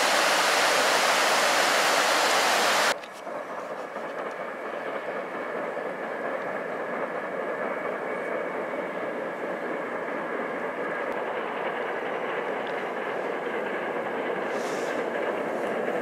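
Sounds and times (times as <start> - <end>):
train wheels rushing on bridge: 0.0 - 16.0.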